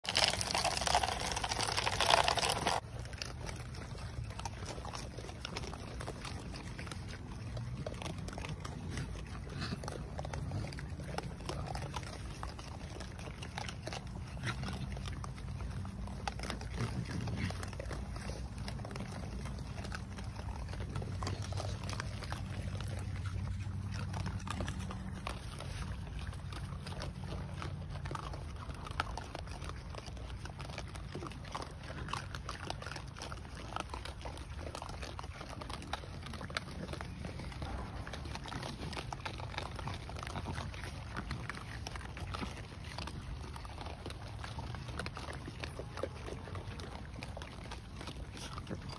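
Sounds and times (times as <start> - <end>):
animals crunching and chewing: 0.0 - 48.9.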